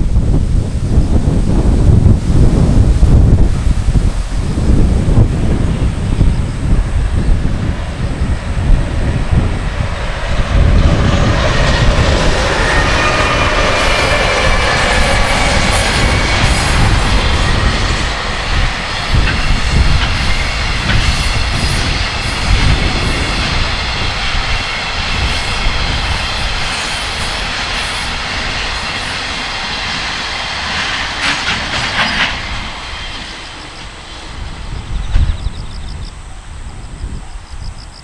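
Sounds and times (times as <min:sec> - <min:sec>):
freight train rolling past: 0:00.0 - 0:38.0
wind buffeting microphone: 0:00.0 - 0:38.0.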